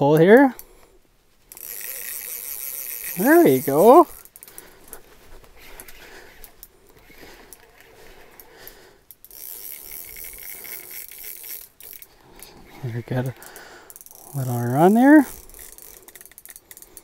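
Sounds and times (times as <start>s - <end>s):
fishing reel clicking: 1.5s - 17.0s.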